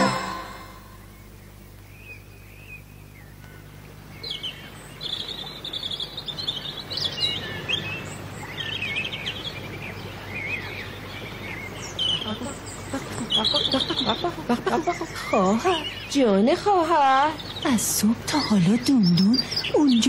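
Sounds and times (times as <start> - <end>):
low steady hum: 0.0 - 20.0
small birds chirping: 1.0 - 20.0.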